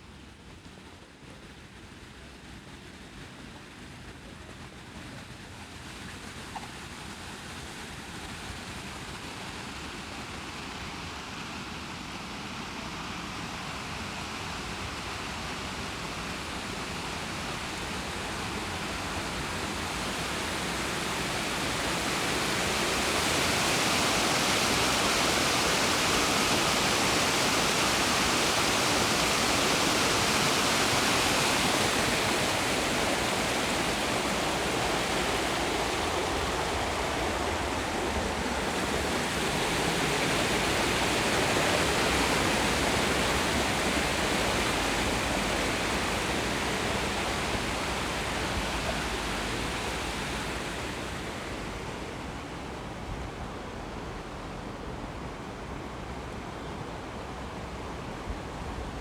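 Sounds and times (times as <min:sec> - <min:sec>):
rushing water: 0:04.6 - 0:59.0.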